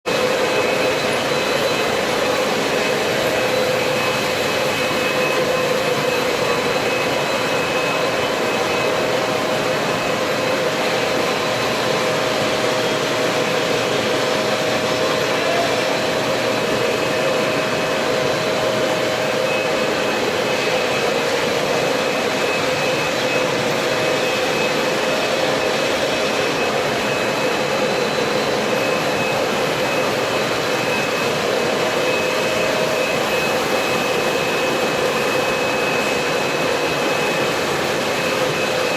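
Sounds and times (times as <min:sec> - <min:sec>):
floor scrubber machine whine: 0:00.0 - 0:38.9.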